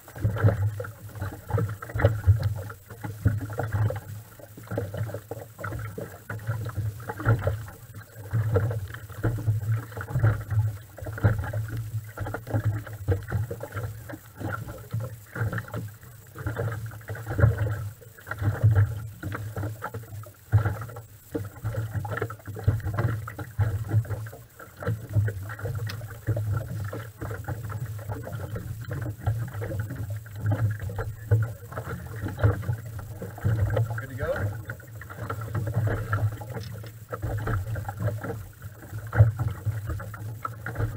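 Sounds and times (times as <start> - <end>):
outboard engine idling: 0.0 - 40.9.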